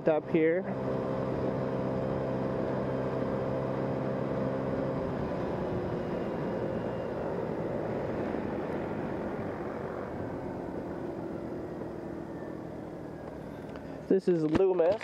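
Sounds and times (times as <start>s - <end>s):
road and wind noise: 0.0s - 15.0s
vehicle engine hum: 0.0s - 15.0s.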